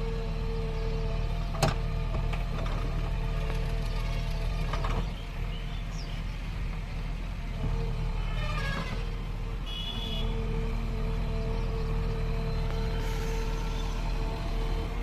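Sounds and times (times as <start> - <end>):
backhoe diesel engine running: 0.0 - 15.0.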